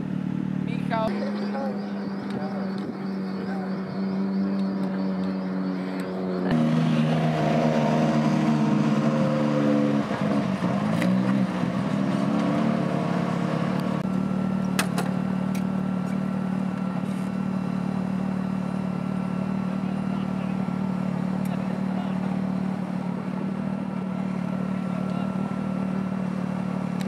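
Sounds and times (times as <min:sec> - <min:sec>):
car engine idling: 0:00.0 - 0:12.0, 0:12.9 - 0:27.0.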